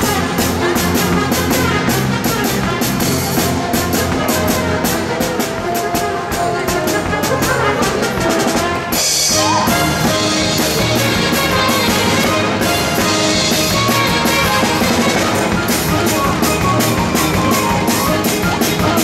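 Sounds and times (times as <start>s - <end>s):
brass band music: 0.0s - 19.0s
steady drum beat: 0.0s - 19.0s.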